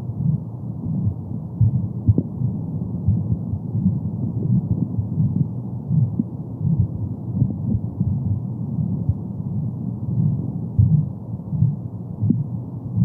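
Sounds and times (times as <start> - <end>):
heartbeat-like pulse: 0.0 - 13.0
muffled low whooshing: 0.0 - 13.0.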